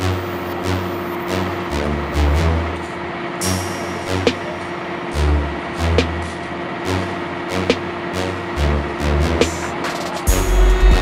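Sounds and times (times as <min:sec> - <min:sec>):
heavy bass line: 0:00.0 - 0:11.0.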